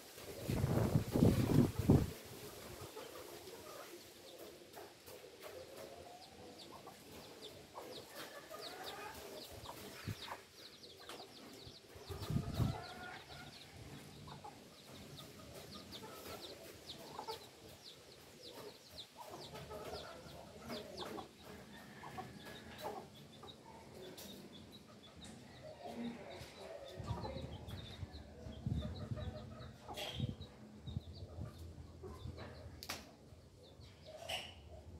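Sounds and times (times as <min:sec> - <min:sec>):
chickens clucking: 0:00.0 - 0:34.9
small birds chirping: 0:00.3 - 0:34.9.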